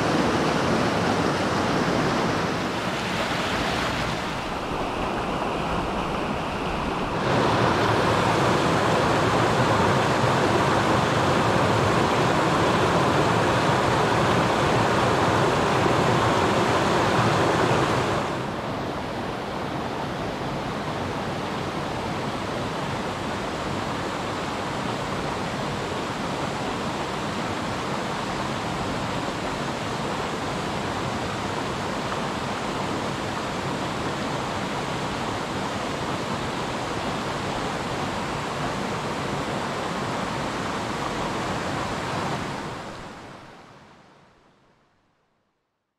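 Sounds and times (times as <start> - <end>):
water rushing over rocks: 0.0 - 18.7, 21.0 - 43.6.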